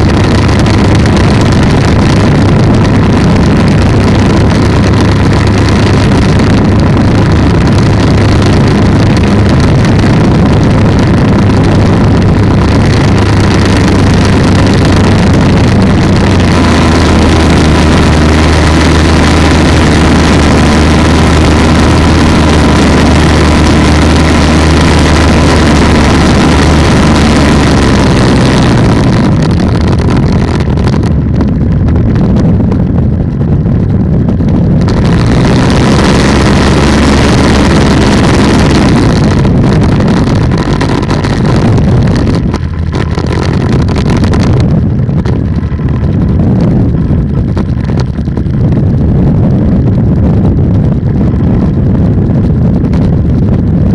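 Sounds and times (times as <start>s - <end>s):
two-stroke engine running: 0.0s - 53.9s.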